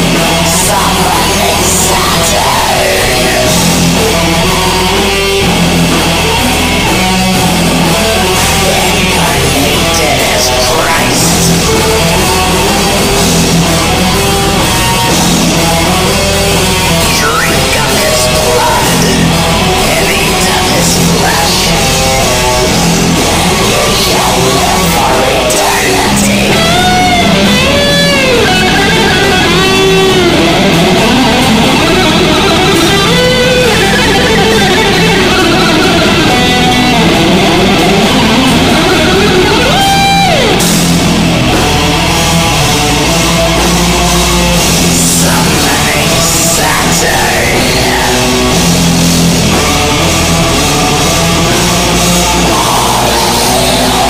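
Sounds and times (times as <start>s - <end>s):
guitar bending notes: 0.0s - 54.0s
heavy metal band playing: 0.0s - 54.0s.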